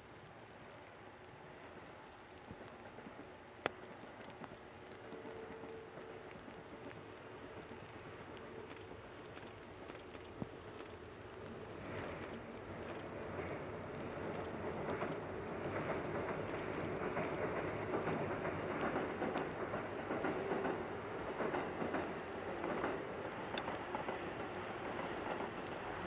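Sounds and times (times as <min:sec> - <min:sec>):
steady rain hiss: 0:00.0 - 0:26.0
distant diesel train passing: 0:01.3 - 0:26.0.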